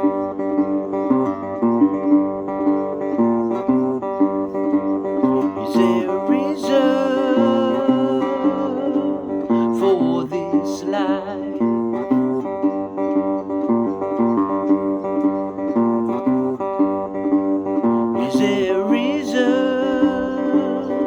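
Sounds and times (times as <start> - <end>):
acoustic guitar chords: 0.0 - 21.0
wavering melody line: 0.0 - 21.0.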